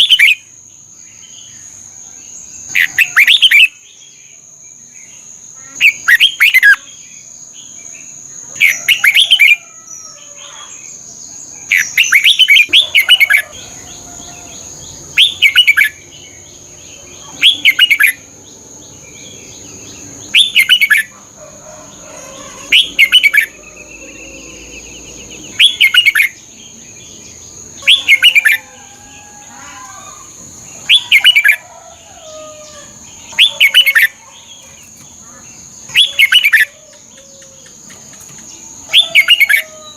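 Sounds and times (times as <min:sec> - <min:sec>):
bulbul singing: 0:04.8 - 0:39.9.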